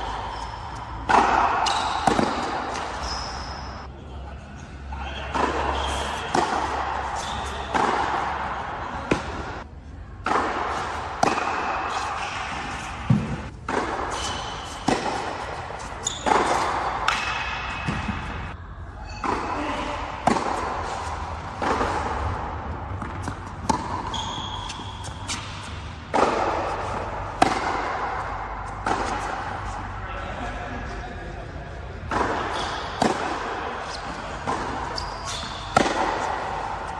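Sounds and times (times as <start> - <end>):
tennis ball hit by rackets: 0.0 - 3.5, 5.2 - 9.6, 10.2 - 18.6, 19.2 - 29.8, 32.1 - 36.9
tennis ball bouncing: 0.0 - 3.8, 5.2 - 18.6, 19.2 - 29.9, 32.0 - 36.9.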